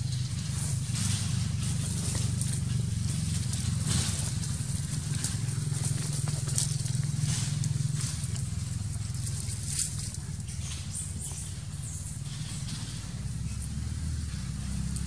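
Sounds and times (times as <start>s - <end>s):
dry leaves rustling: 0.0s - 15.0s.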